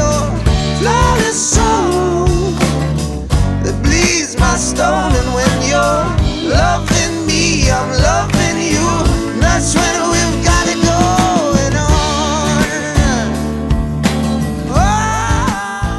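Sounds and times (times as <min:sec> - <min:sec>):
soul-pop song with full band: 0:00.0 - 0:15.9.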